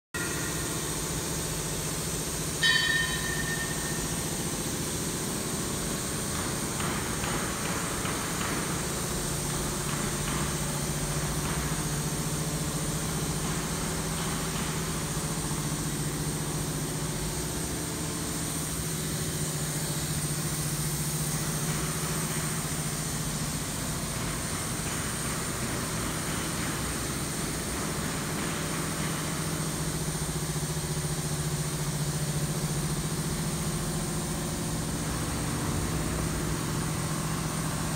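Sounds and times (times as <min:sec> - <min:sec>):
diesel engine running steadily: 0:00.2 - 0:37.9.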